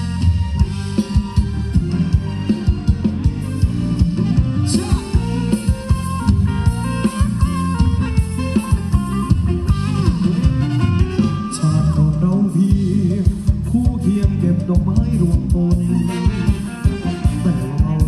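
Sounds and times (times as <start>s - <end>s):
bass: 0.0s - 18.0s
fast drum beat: 0.0s - 18.0s
guitar melody: 0.0s - 18.0s
live band dance music: 0.0s - 18.0s.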